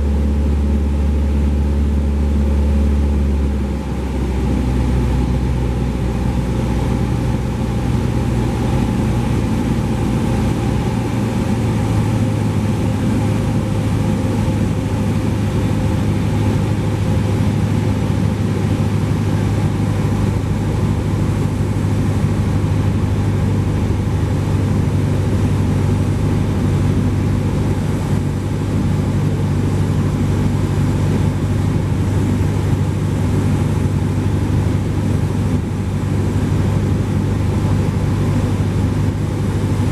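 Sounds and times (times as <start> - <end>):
airplane engine and propeller drone: 0.0 - 39.9
airflow noise: 5.8 - 39.9.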